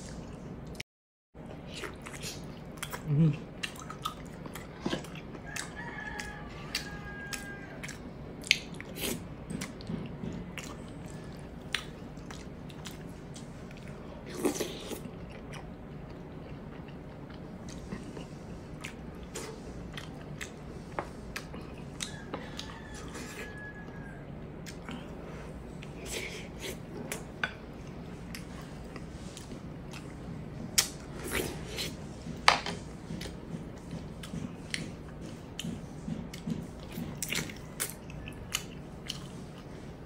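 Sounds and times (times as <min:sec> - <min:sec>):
person chewing and smacking: 0:01.4 - 0:39.7.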